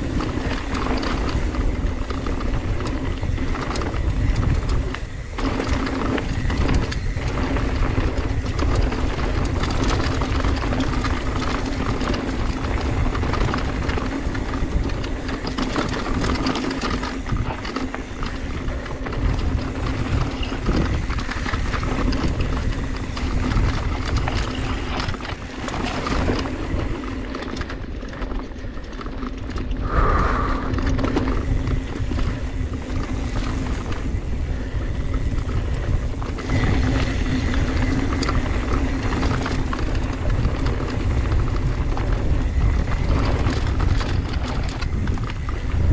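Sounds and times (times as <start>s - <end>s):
bike rattling over bumps: 0.0s - 45.9s
bike tyres rolling over dirt: 0.0s - 45.9s
wind on microphone: 0.0s - 45.9s.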